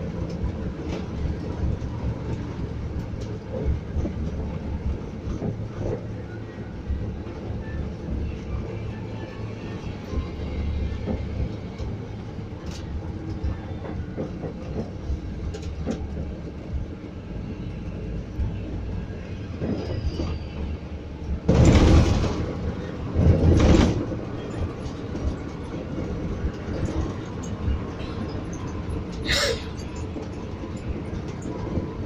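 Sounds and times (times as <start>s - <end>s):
coach engine and road rumble: 0.0s - 32.0s.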